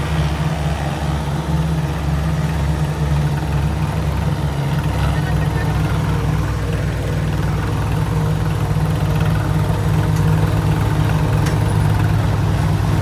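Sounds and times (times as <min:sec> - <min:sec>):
tractor diesel engines chugging: 0:00.0 - 0:13.0.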